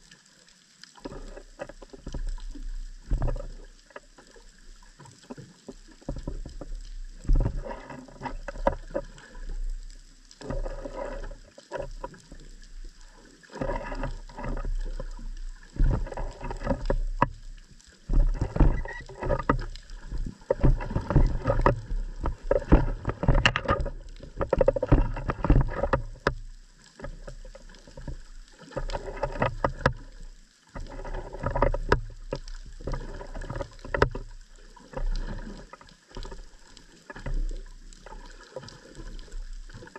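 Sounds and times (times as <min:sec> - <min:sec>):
underwater surges with crackling clicks: 0:00.0 - 0:39.9
low underwater rumble: 0:01.0 - 0:39.9.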